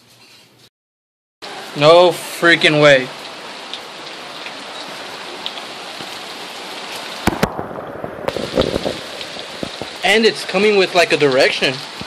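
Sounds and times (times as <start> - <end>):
heavy rain pouring: 1.4 - 12.0.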